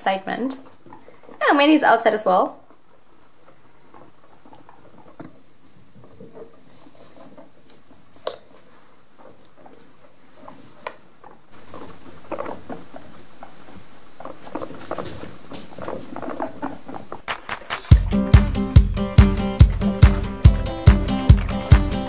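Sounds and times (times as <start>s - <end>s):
guinea pigs scampering: 0.0s - 17.7s
small feet pattering: 2.6s - 22.0s.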